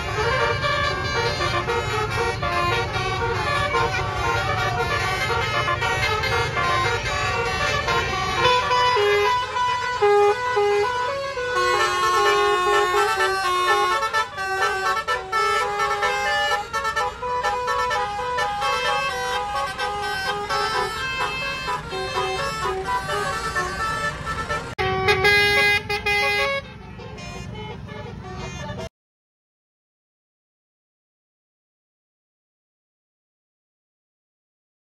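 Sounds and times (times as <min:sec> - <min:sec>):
bus engine running: 0:00.0 - 0:28.9
multi-trumpet air horn tune: 0:00.0 - 0:28.9.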